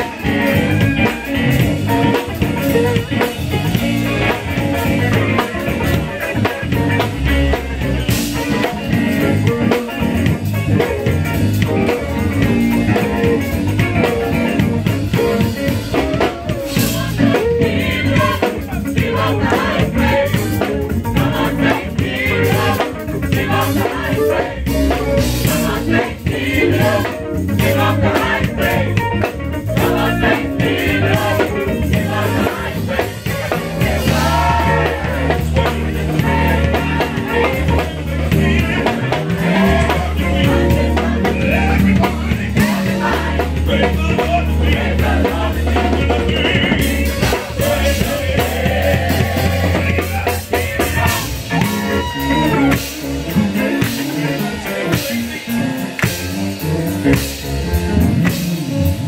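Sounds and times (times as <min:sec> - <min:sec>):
gospel choir singing: 0:00.0 - 0:57.1
drums: 0:00.0 - 0:59.0
guitar: 0:00.0 - 0:59.0
live band playing: 0:00.0 - 0:59.0.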